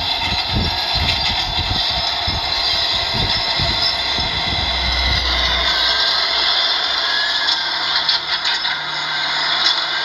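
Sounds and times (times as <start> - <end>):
diesel earthmoving machinery running: 0.0 - 10.0.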